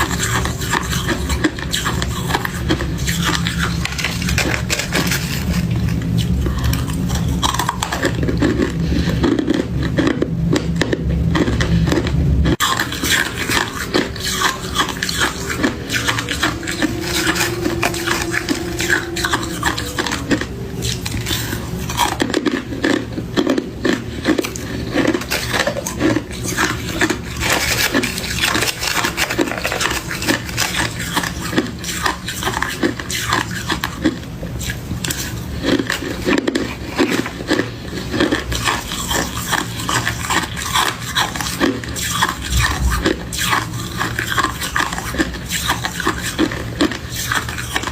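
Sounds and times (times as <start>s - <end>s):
freezer frost and ice crunching: 0.0s - 47.9s.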